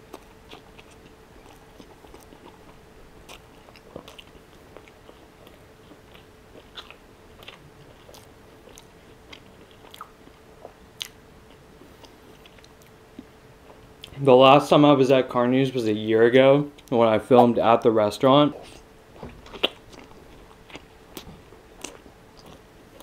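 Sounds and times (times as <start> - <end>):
person chewing food: 0.0 - 14.2, 18.6 - 23.0
faint steady hum: 0.0 - 23.0.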